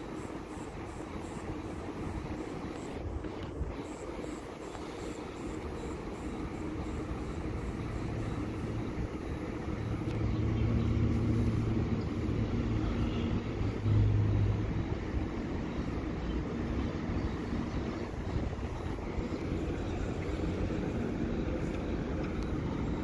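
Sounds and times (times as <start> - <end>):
electric train equipment hum: 0.0 - 23.0.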